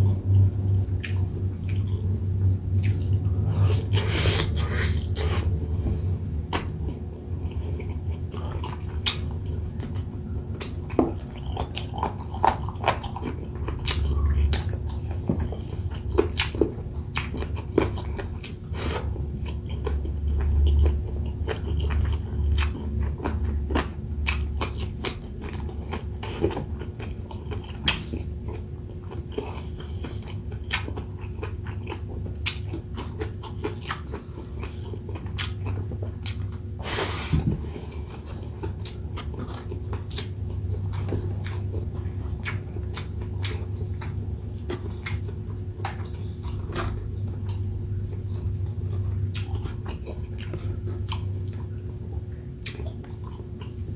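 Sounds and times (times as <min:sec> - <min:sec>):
chewing and biting food: 0:00.0 - 0:53.9
steady low hum: 0:00.0 - 0:53.9.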